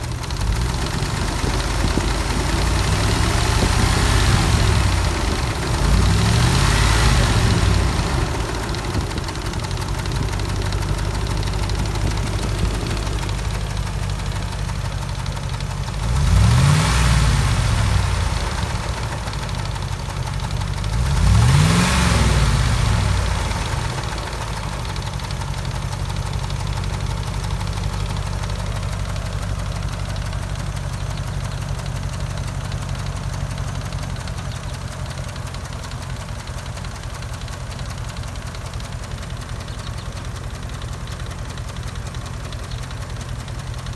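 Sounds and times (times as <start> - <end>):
engine ticking: 0.0 - 43.9
truck engine idling and revving: 0.0 - 43.9.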